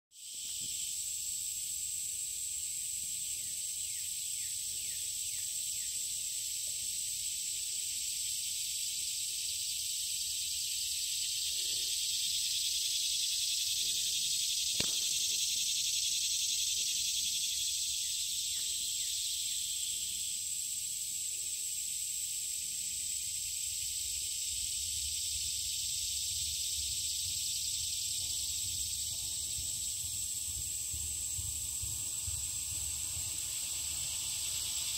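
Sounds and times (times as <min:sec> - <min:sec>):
insects buzzing: 0:00.2 - 0:34.9.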